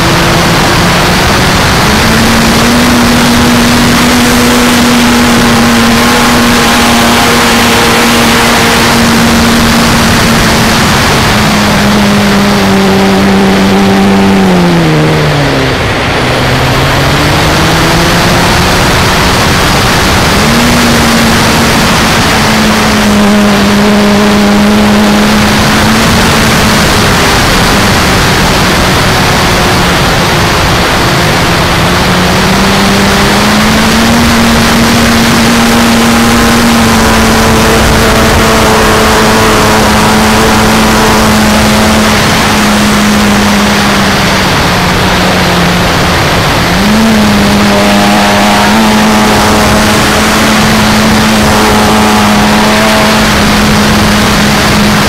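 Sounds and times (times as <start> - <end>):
model airplane motor and propeller hum: 0.0 - 55.0.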